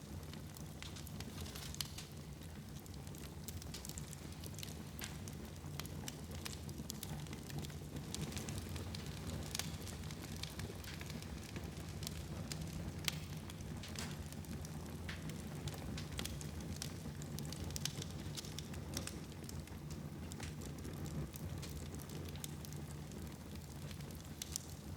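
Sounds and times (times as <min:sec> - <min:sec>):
fire crackling in fireplace: 0:00.0 - 0:24.9.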